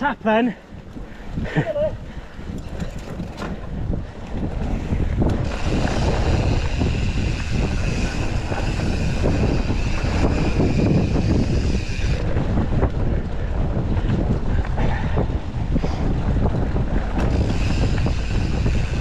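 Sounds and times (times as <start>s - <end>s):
bike rattling: 0.0s - 19.0s
wind buffeting microphone: 0.0s - 19.0s
bike tyre noise: 0.6s - 19.0s.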